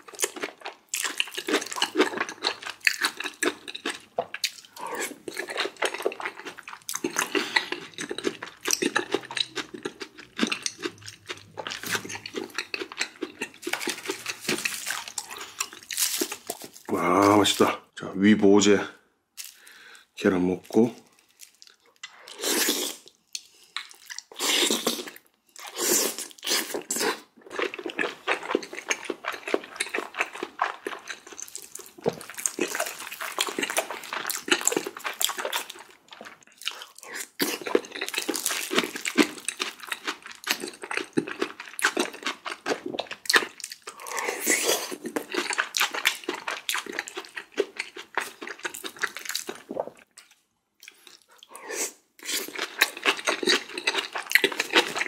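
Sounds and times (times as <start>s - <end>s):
person chewing and crunching food: 0.0s - 17.7s, 19.4s - 55.0s.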